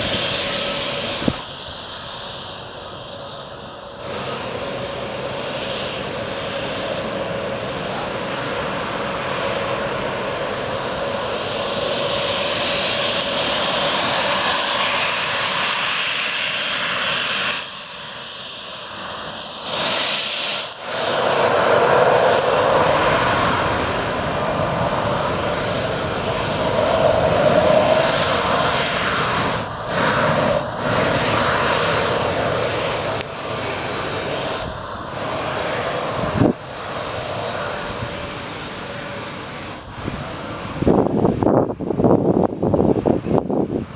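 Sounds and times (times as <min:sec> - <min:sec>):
jet engine rush and whine: 0:00.0 - 0:43.9.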